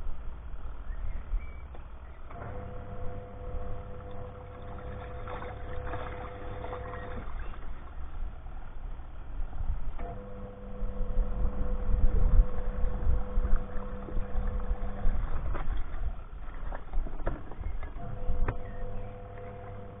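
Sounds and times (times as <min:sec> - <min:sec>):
washing machine motor humming: 0:01.9 - 0:20.0.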